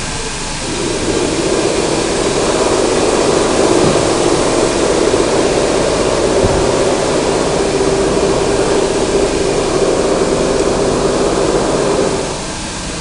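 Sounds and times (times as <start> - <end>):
loud steady machine noise: 0.0 - 13.0.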